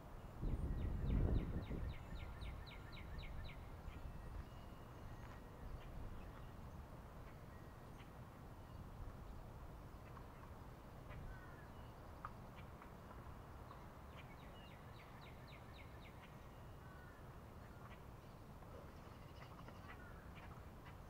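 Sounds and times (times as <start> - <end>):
faint birdsong chirps: 0.1 - 21.0.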